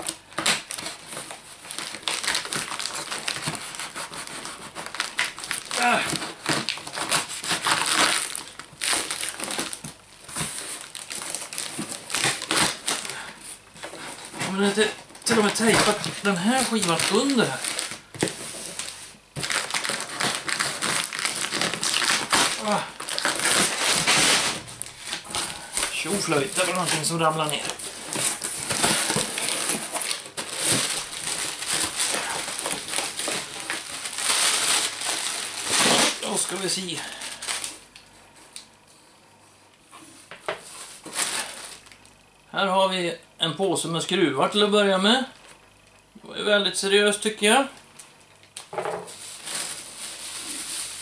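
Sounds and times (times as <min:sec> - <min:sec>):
cardboard rustling and ripping: 0:00.0 - 0:37.8, 0:40.2 - 0:41.9, 0:49.1 - 0:51.0
plastic wrapping crinkling: 0:00.0 - 0:38.7, 0:40.2 - 0:42.4, 0:47.6 - 0:51.0.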